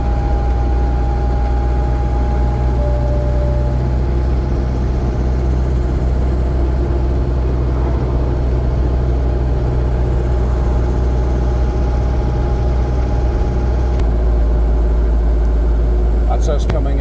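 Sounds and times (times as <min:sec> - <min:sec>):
engine running low drone: 0:00.0 - 0:17.0.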